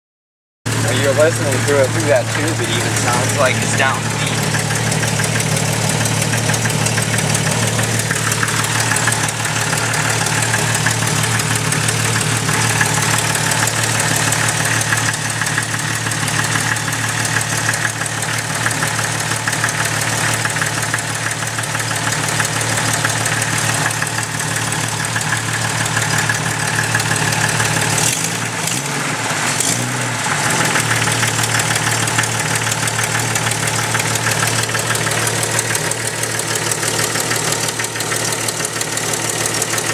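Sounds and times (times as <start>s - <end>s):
exhaust leak ticking: 0.7s - 28.3s, 30.4s - 39.9s
car engine idling: 0.7s - 39.9s.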